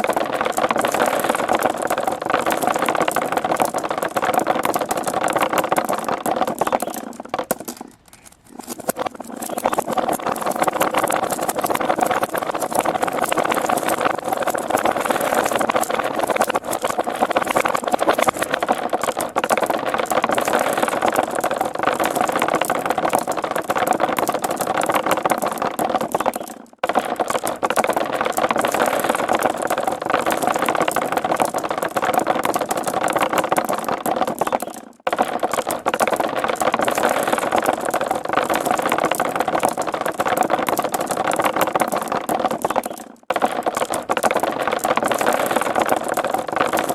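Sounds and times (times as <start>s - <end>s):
marbles rattling down tracks: 0.0s - 46.9s.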